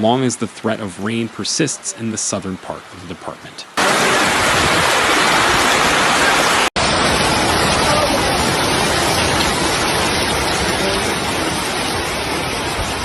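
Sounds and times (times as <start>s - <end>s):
loud rush of water: 0.1s - 13.0s.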